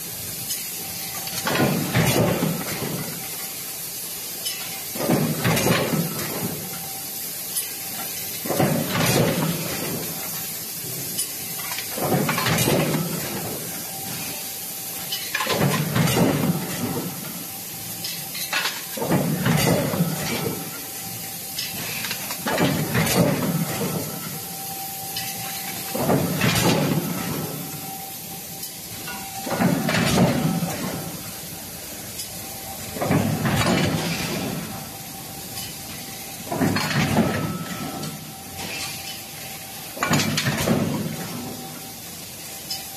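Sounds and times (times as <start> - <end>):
forging machine hissing and knocking: 0.0 - 42.9.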